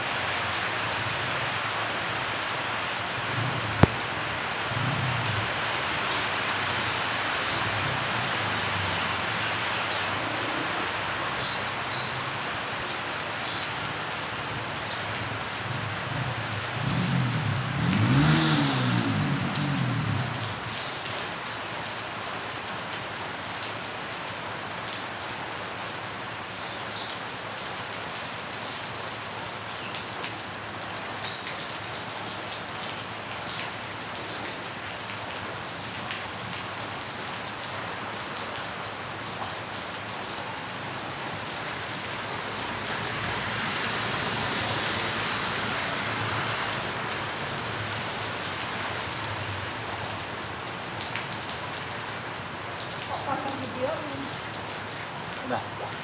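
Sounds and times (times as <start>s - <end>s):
rain falling on water: 0.0s - 56.0s.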